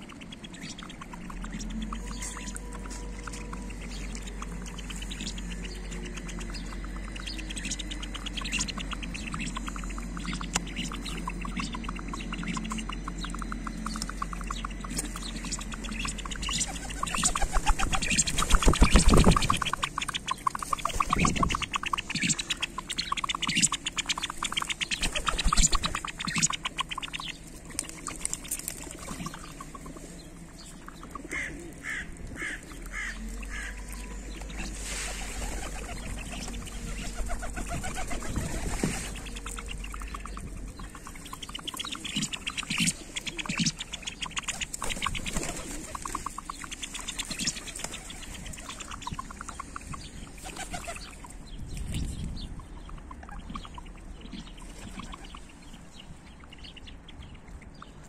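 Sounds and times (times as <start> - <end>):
ducks calling: 0.0 - 51.4, 52.5 - 58.0.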